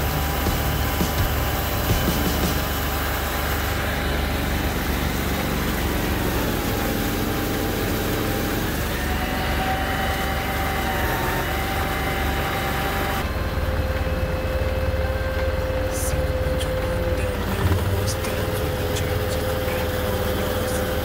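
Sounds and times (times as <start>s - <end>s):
vehicle engine running: 0.0s - 21.0s
water churning from wheels: 0.0s - 21.0s.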